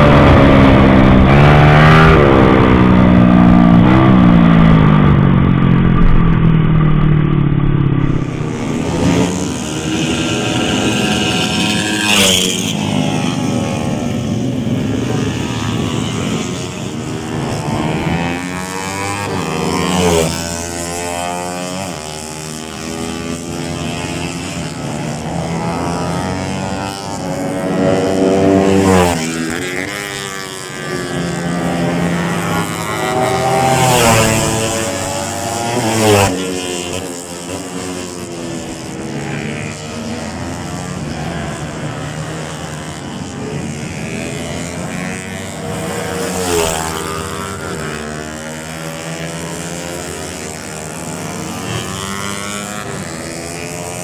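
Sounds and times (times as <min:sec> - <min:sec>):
racing motorcycles passing by: 0:00.0 - 0:54.0.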